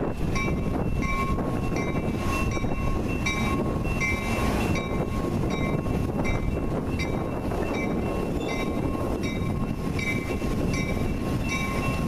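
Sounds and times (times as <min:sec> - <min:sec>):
train cars rolling past: 0:00.0 - 0:12.0
bell ringing: 0:00.4 - 0:12.0.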